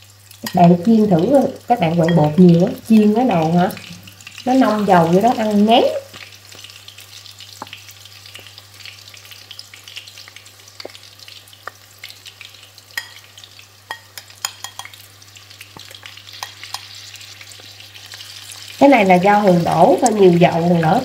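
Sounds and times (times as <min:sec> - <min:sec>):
fritters deep-frying sizzle: 0:00.0 - 0:21.0.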